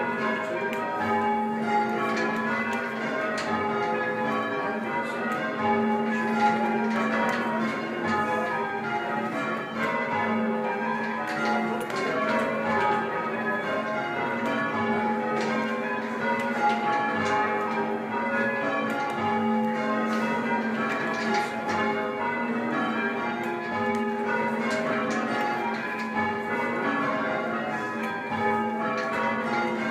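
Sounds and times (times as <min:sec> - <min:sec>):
church bells ringing: 0:00.0 - 0:29.9.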